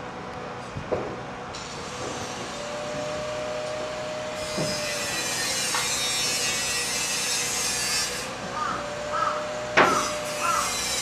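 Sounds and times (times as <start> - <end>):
steady mechanical noise: 0.0 - 11.0.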